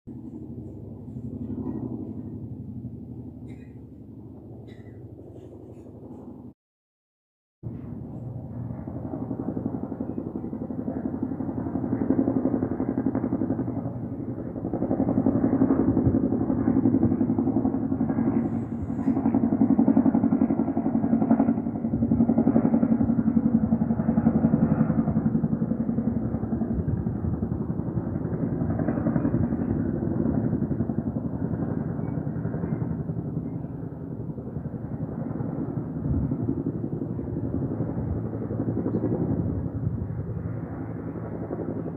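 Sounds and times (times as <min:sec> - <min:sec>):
helicopter rotor chop: 0:00.1 - 0:06.6, 0:07.6 - 0:41.9.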